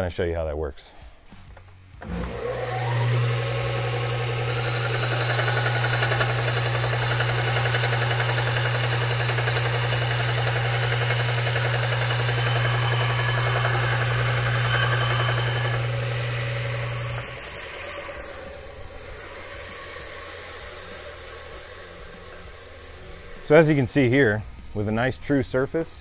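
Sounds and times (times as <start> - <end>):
belt sander motor hum: 2.0 - 24.8
metal tube sanding on belt: 2.3 - 24.3.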